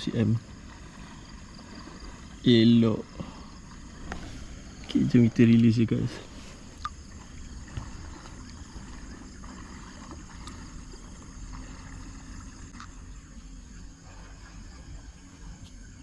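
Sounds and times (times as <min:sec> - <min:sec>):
flowing stream: 0:00.0 - 0:16.0.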